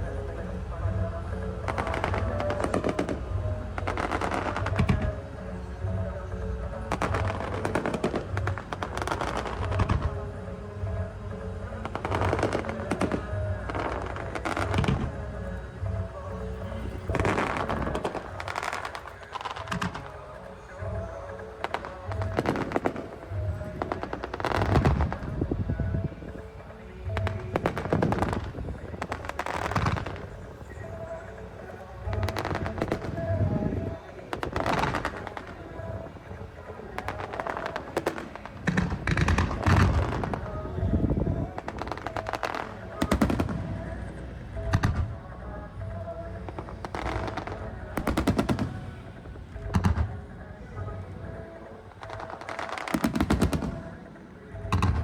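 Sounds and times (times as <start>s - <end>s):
fireworks crackling and popping: 0.0s - 55.0s.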